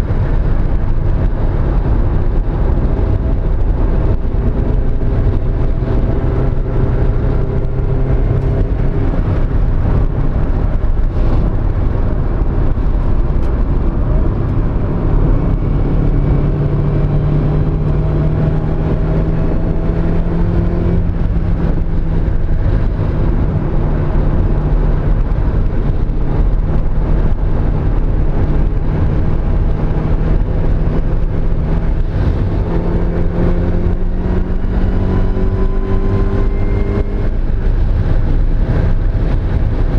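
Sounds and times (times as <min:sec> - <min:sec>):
car engine running at speed: 0:00.0 - 0:39.9
heavy low rumble: 0:00.0 - 0:39.9.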